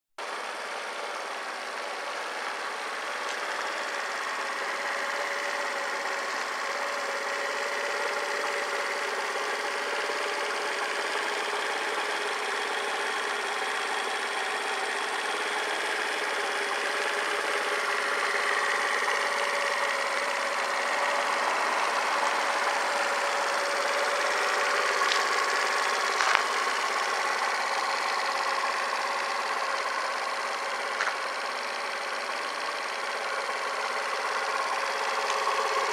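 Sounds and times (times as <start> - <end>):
scooter engine idling: 0.2 - 35.9.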